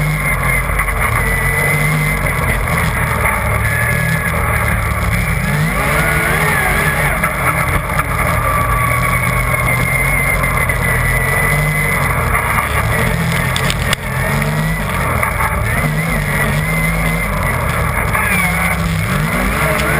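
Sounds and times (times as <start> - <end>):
high whine: 0.0 - 19.9
snowmobile engine running: 0.0 - 19.9
track and snow noise: 0.0 - 19.9.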